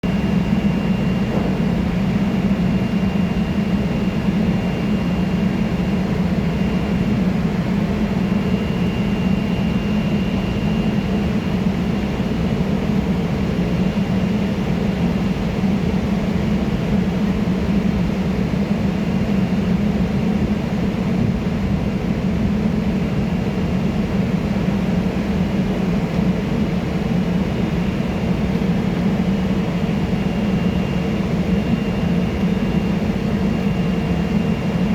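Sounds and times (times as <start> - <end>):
locomotive droning hum: 0.0 - 34.9.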